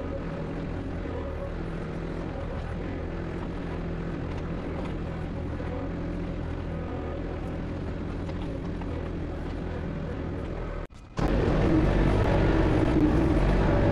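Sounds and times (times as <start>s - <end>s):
tractor engine running under load: 0.0s - 13.9s.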